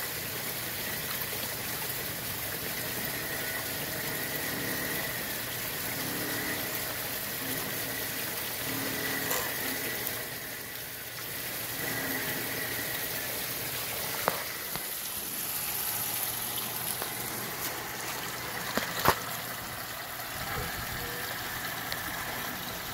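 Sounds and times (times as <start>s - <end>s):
faint motor whine: 0.0s - 22.9s
running water: 0.0s - 22.9s.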